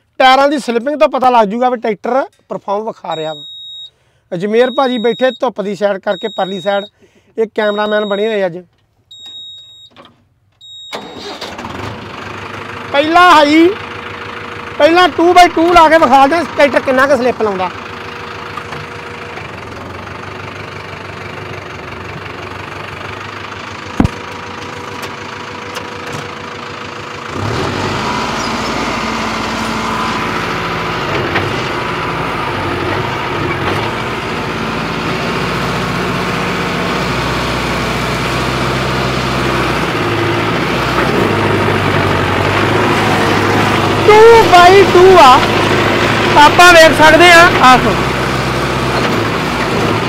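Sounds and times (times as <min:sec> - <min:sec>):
tractor diesel engine: 0:00.0 - 0:50.0.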